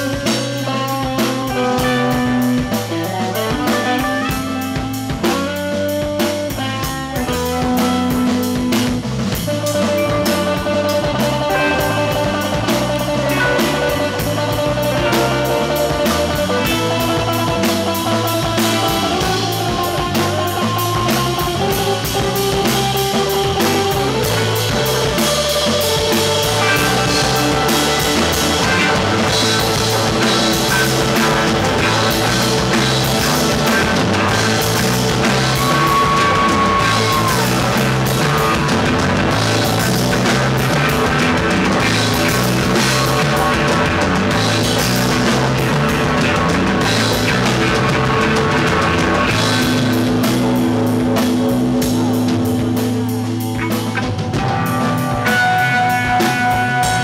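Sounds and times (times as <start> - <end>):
drum kit steady beat: 0.0 - 57.0
electric guitar: 0.0 - 57.0.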